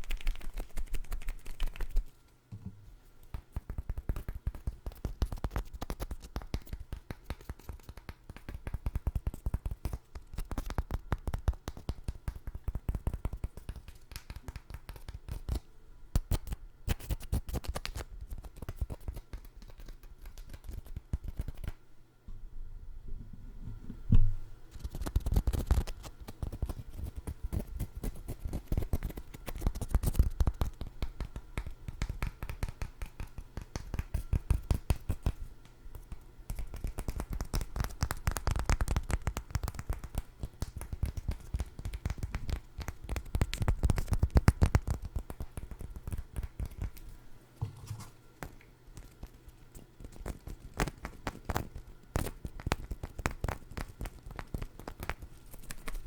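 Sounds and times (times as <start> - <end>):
hands tapping and scratching food: 0.0 - 2.1, 3.2 - 21.8, 24.8 - 56.0.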